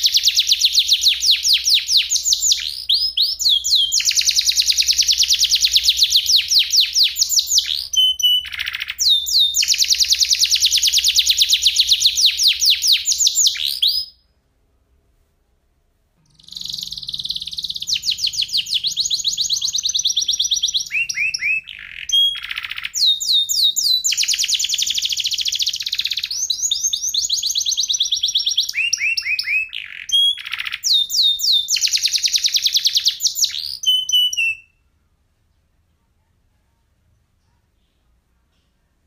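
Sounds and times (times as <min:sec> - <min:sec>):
canary singing trills: 0:00.0 - 0:14.2, 0:16.2 - 0:34.9.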